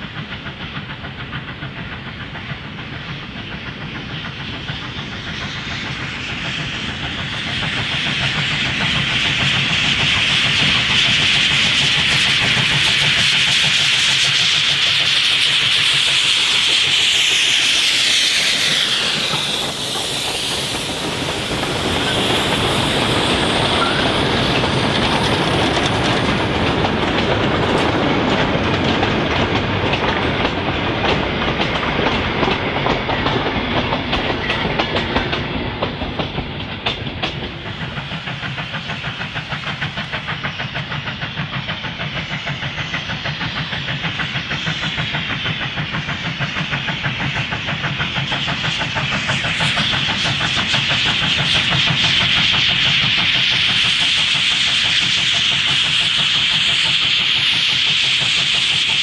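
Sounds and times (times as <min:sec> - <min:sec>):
distant steam train chuffing: 0:00.0 - 0:59.0.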